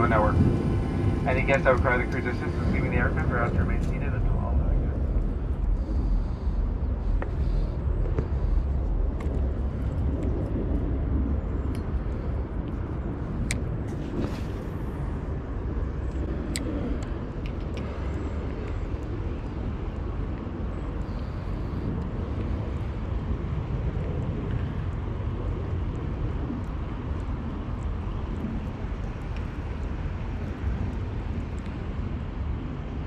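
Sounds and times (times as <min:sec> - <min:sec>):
jet cabin rumble: 0:00.0 - 0:33.0.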